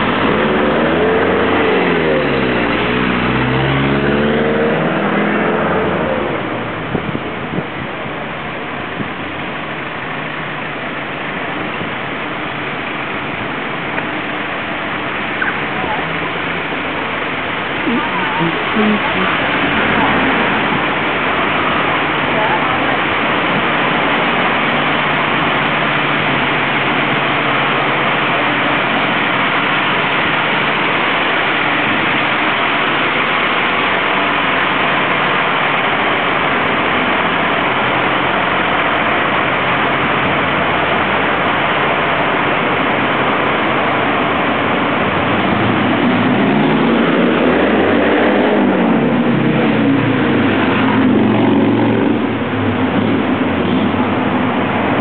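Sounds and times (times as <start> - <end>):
heavy engine revving: 0.0 - 55.0
street traffic road noise: 0.0 - 55.0.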